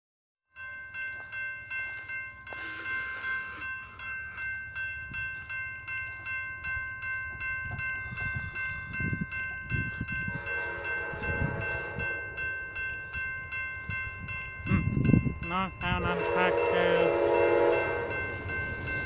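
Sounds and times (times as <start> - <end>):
railroad crossing bell ringing: 0.5 - 19.0.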